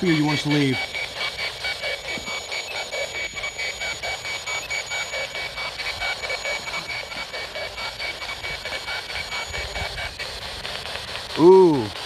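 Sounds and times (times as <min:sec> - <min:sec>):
radio static with choppy blips: 0:00.0 - 0:12.0.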